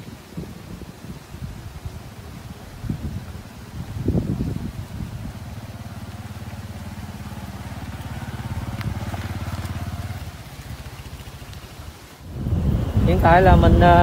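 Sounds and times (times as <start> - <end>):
motorcycle engine running: 1.5 - 14.0.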